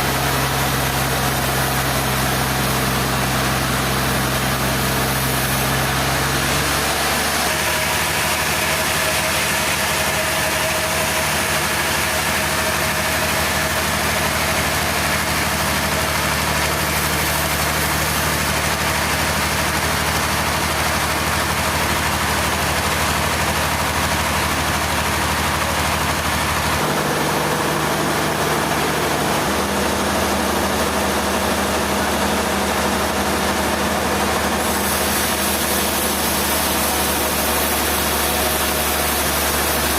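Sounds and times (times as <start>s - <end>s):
heavy engine humming: 0.0s - 39.9s.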